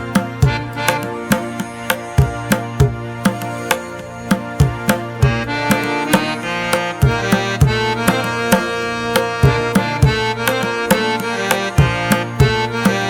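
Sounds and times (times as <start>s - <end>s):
sustained melodic tones: 0.0s - 13.0s
tabla beating: 0.0s - 13.0s.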